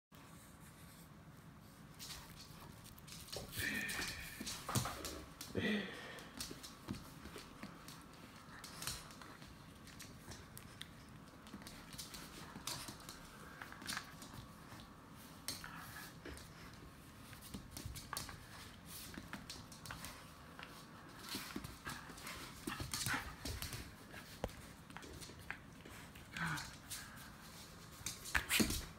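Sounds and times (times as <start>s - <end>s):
dog claws clicking on floor: 2.0s - 5.5s, 6.2s - 28.9s.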